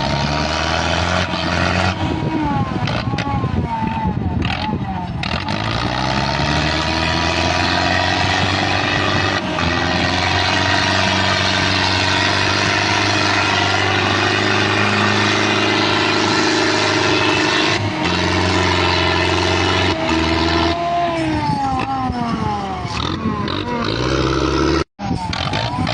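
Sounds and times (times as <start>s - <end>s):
tractor diesel engine revving: 0.0s - 25.9s.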